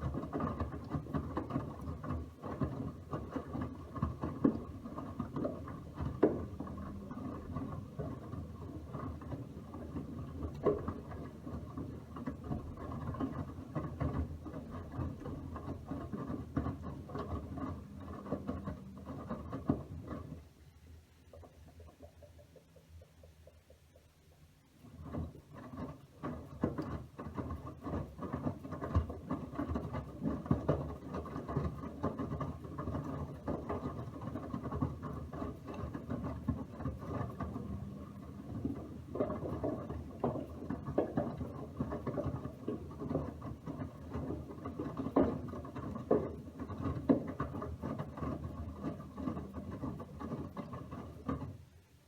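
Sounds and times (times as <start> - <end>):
laundry and water sloshing: 0.0 - 22.4, 24.8 - 51.7.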